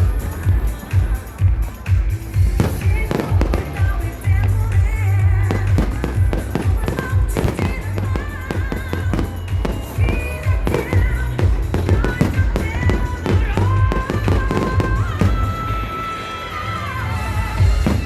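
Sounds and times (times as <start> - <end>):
music with heavy bass beat: 0.0 - 15.8
fireworks popping and crackling: 0.0 - 16.6, 17.2 - 18.0.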